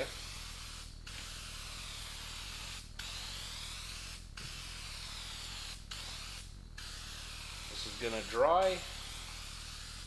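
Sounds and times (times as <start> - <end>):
aerosol can spraying: 0.0 - 10.0.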